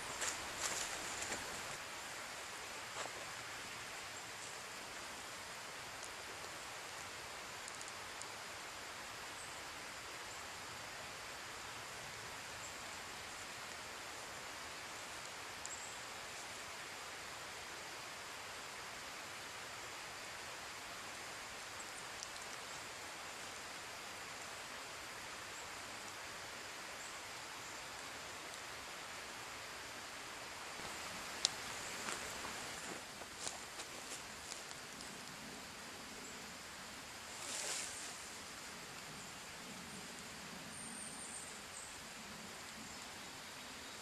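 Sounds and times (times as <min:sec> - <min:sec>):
rain falling: 0:00.0 - 0:44.0
rustle of leaves: 0:00.0 - 0:44.0.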